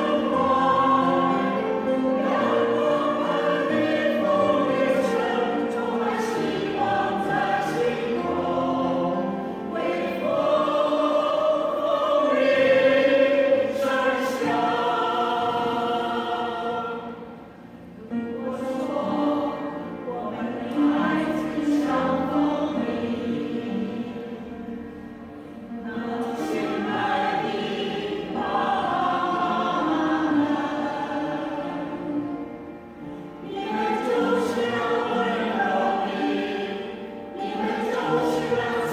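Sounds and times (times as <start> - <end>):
choir singing long notes: 0.0 - 38.9.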